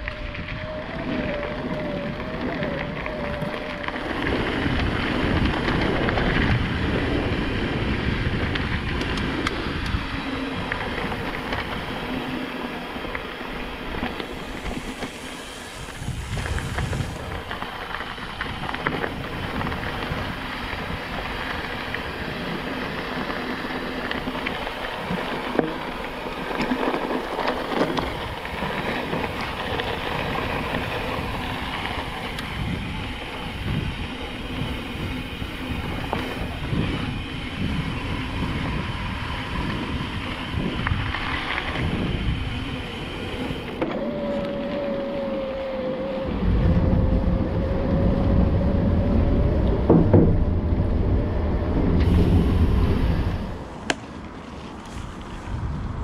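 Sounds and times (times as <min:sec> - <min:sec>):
tyres crunching over gravel: 0:00.0 - 0:45.0
bike rattling: 0:00.0 - 0:56.0
wind on microphone: 0:00.0 - 0:56.0.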